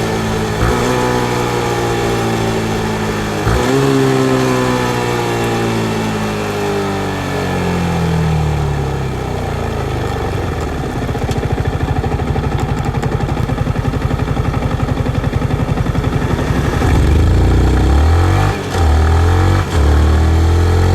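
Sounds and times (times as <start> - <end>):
motorcycle engine revving and idling: 0.0 - 20.9.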